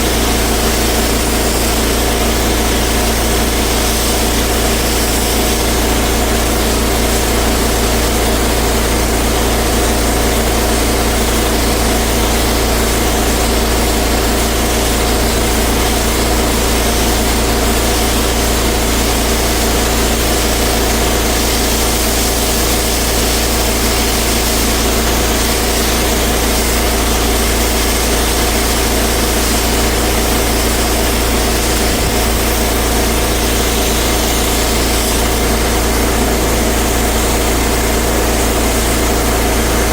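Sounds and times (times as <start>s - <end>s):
high-pressure water spray hissing: 0.0s - 39.9s
pressure washer engine running: 0.0s - 39.9s.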